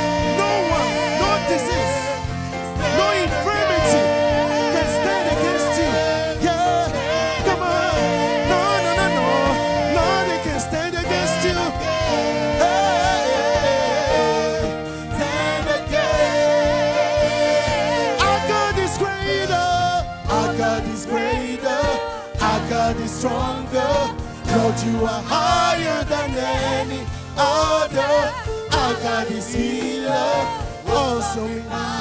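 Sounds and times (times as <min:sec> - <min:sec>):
band playing chords: 0:00.0 - 0:32.0
person singing with vibrato: 0:00.0 - 0:32.0.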